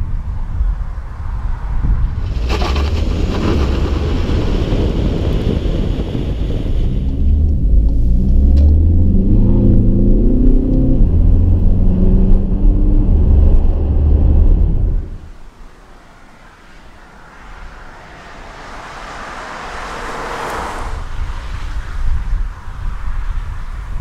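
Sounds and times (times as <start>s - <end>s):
road and wind rush: 0.0s - 24.0s
diesel car engine accelerating: 1.8s - 22.7s.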